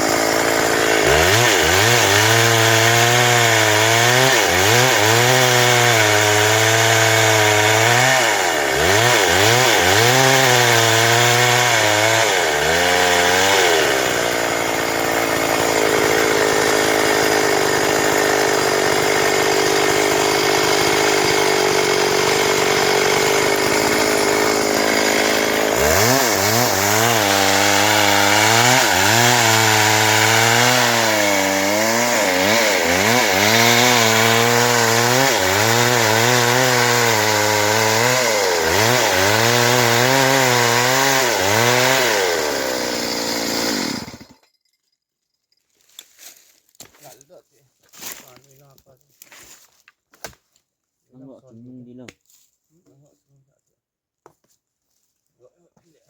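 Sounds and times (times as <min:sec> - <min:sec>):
chainsaw sawing wood: 0:00.0 - 0:44.4, 0:45.8 - 0:50.4.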